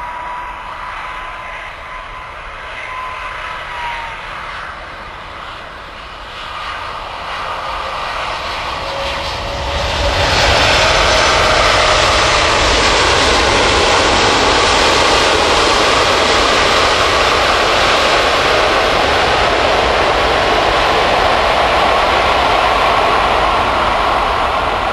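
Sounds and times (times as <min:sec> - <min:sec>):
jet engine whine falling in pitch: 0:00.0 - 0:24.9.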